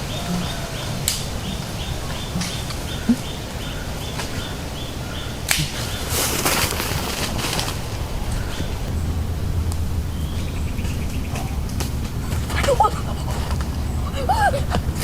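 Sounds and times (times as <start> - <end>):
rustling noise: 0.0 - 15.0.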